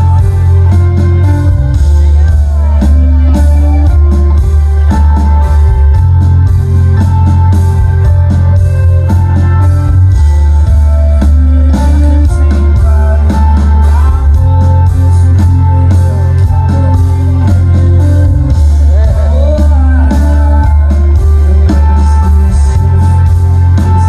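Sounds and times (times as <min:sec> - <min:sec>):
electric guitars: 0:00.0 - 0:24.0
heavy booming bass: 0:00.0 - 0:24.0.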